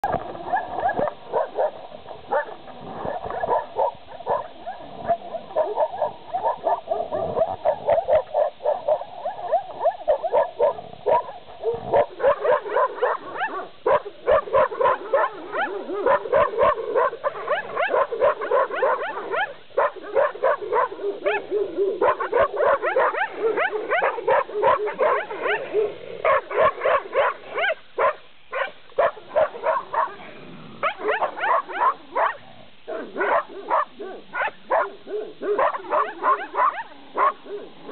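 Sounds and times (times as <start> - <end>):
dogs barking: 0.4 - 37.9.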